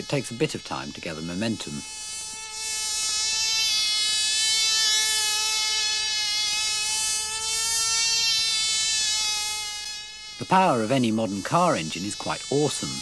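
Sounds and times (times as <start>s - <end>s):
model engine high-pitched buzz: 0.0s - 13.0s.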